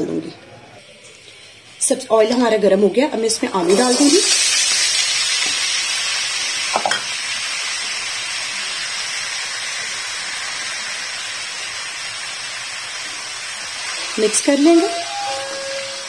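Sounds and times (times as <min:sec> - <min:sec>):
potatoes sizzling in hot oil: 0:01.4 - 0:16.0.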